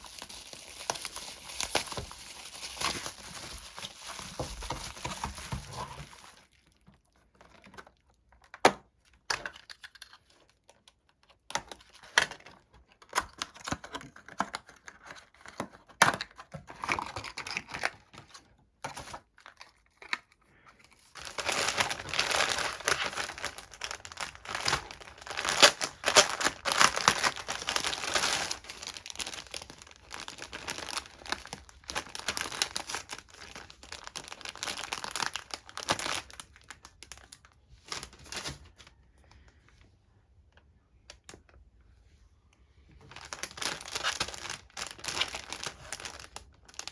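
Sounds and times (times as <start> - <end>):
packaging crinkling and tearing: 0.0 - 39.0, 43.1 - 46.9.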